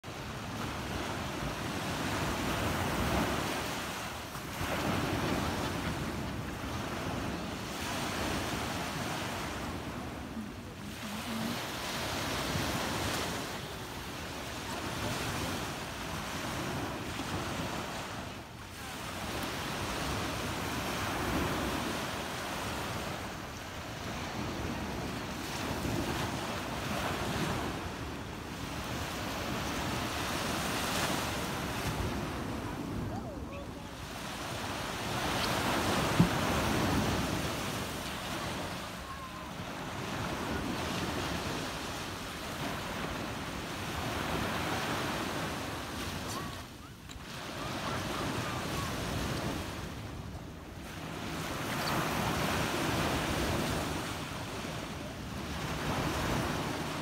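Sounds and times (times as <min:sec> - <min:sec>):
small waves breaking on sand: 0:00.0 - 0:57.0.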